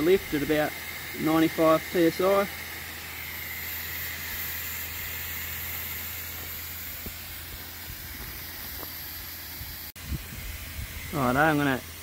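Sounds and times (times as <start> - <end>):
steam hissing from safety valve: 0.0 - 12.0.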